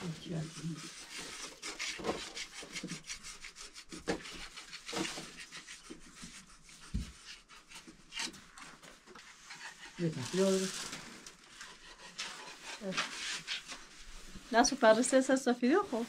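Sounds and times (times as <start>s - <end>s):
hand tool scraping hard surface: 0.2s - 10.9s, 11.5s - 15.0s.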